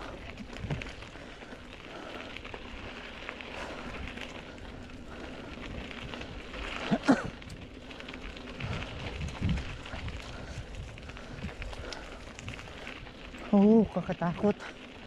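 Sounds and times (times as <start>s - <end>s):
bike tyres rolling over leaves: 0.0s - 15.0s.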